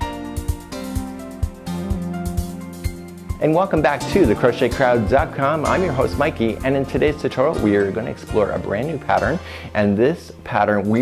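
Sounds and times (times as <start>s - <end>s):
theme music with steady beat: 0.0s - 9.5s.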